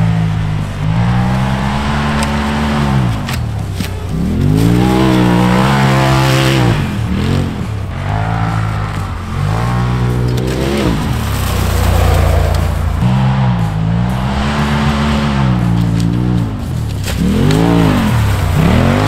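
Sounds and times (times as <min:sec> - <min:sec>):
engine revving hard: 0:00.0 - 0:19.0.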